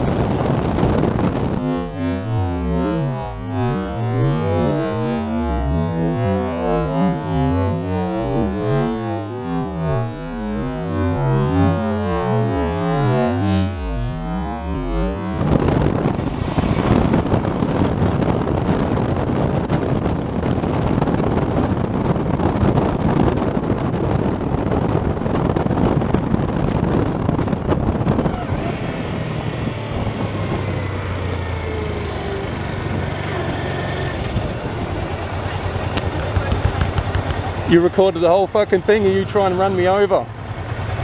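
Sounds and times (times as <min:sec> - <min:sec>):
motorcycle engine hum: 0:00.0 - 0:41.0
wind rushing over microphone: 0:00.0 - 0:41.0.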